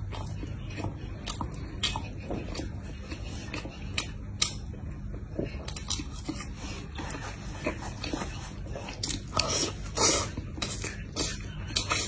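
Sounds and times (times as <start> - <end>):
chewing with wet mouth sounds: 0.0 - 12.0.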